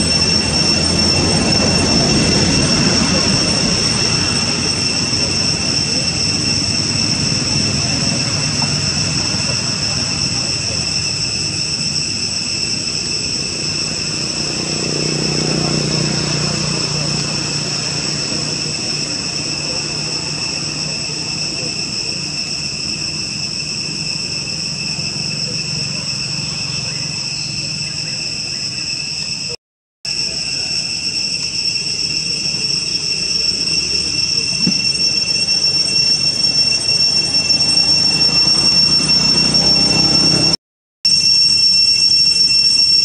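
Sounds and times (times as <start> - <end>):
insect chorus shrilling: 0.0 - 43.0.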